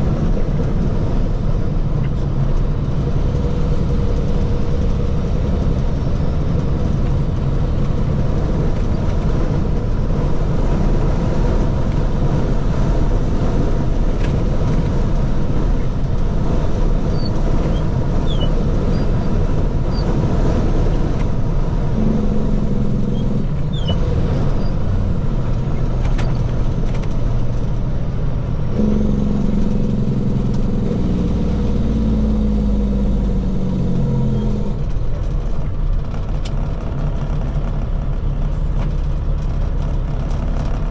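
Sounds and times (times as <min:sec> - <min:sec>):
diesel truck engine running: 0:00.0 - 0:40.9
road noise: 0:00.0 - 0:40.9.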